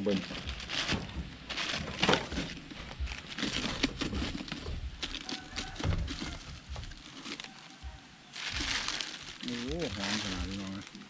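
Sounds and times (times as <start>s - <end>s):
plastic sheet crinkling: 0.0s - 11.0s.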